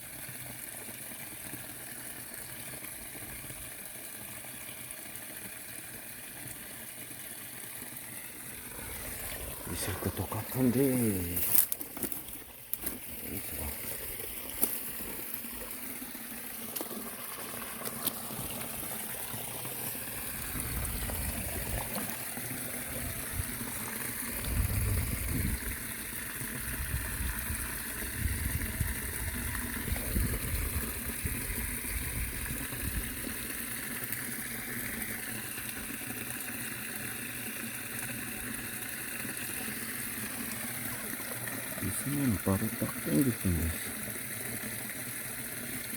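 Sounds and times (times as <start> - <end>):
water running over weir: 0.0 - 45.9.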